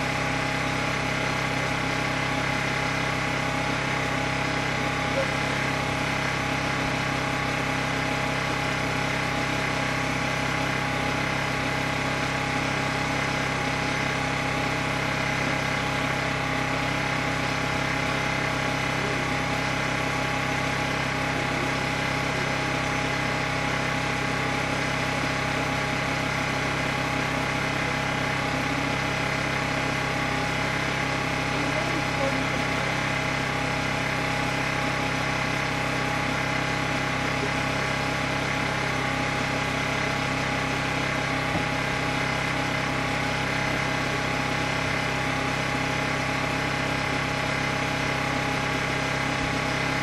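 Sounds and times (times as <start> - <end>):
engine idling: 0.0 - 50.0.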